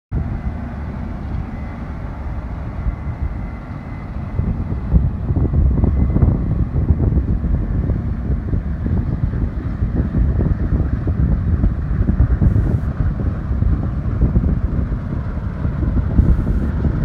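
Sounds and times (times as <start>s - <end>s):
combine harvester rumbling: 0.2s - 17.0s.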